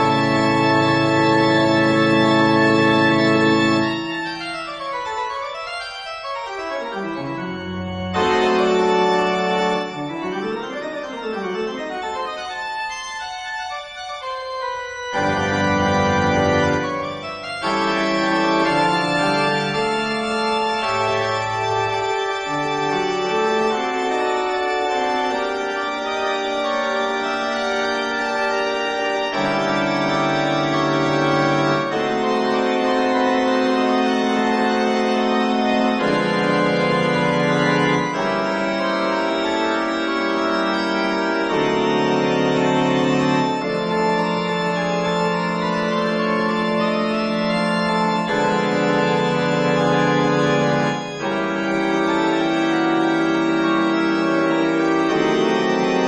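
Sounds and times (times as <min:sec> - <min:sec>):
organ chords: 0:00.0 - 0:56.0.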